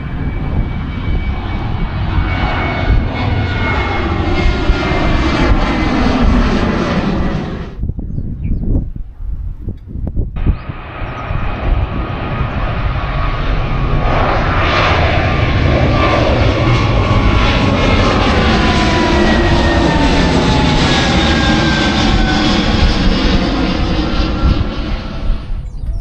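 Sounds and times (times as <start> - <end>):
airplane flying low overhead: 0.0 - 26.0.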